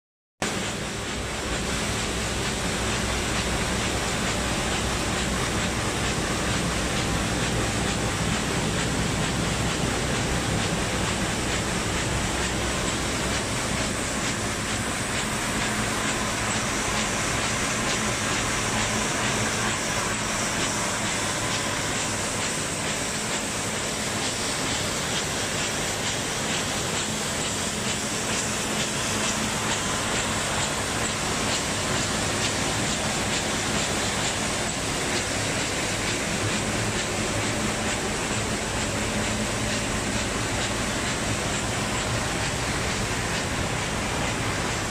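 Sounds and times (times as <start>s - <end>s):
machine whir and clatter: 0.4s - 44.9s.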